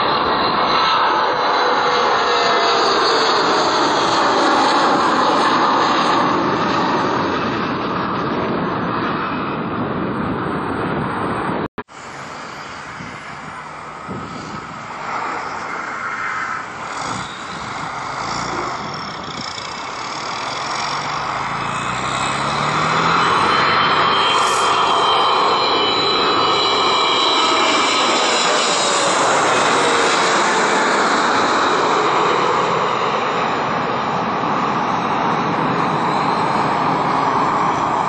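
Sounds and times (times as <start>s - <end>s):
airliner approaching: 0.0s - 38.0s
jet engines rushing: 0.0s - 38.0s.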